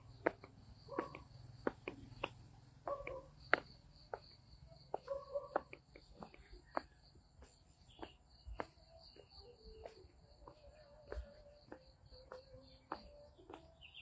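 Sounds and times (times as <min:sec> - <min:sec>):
footsteps on dirt and stone path: 0:00.0 - 0:14.0
insect chirping: 0:00.0 - 0:14.0.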